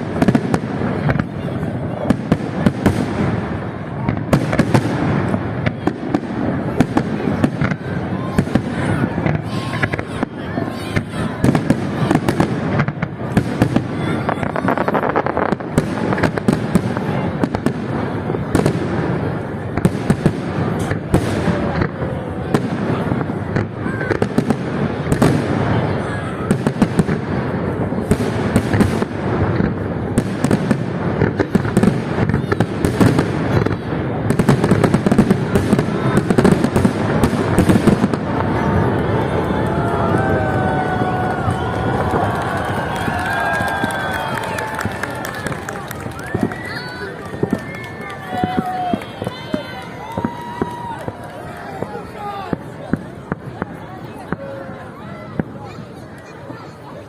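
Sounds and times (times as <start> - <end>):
crowd chatter: 0.0 - 57.0
fireworks bangs and crackles: 0.0 - 57.0.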